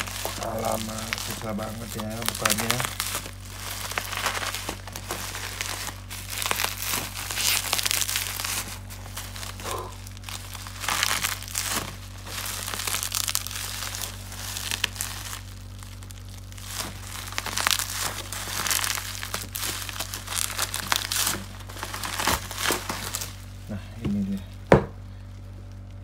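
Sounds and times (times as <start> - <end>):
bubble wrap and tape crinkling: 0.0 - 26.0.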